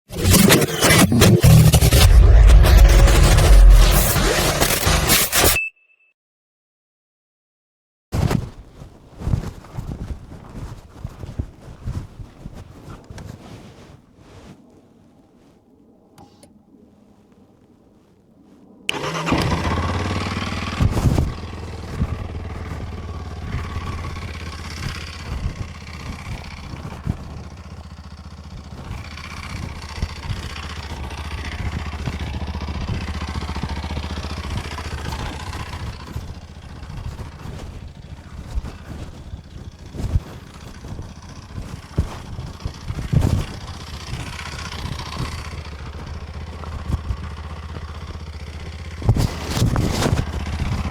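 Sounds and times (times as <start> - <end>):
motorcycle engine starting and running: 0.1 - 5.5, 9.2 - 13.3, 18.9 - 50.9.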